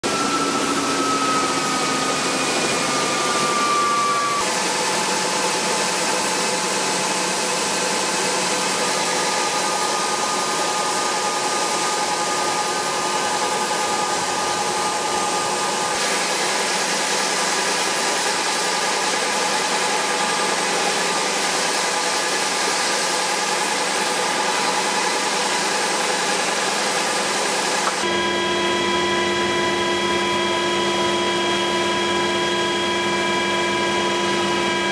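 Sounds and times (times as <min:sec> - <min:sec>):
helicopter engines and rotor: 0:00.0 - 0:34.9.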